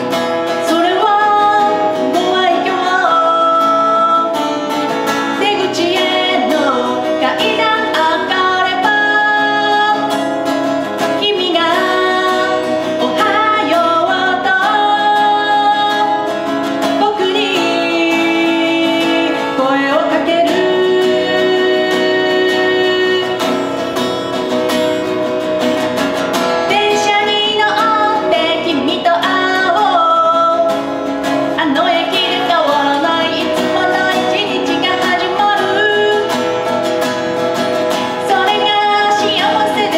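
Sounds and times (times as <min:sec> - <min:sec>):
woman singing: 0:00.0 - 0:24.4, 0:26.6 - 0:39.9
acoustic guitar: 0:00.0 - 0:39.9.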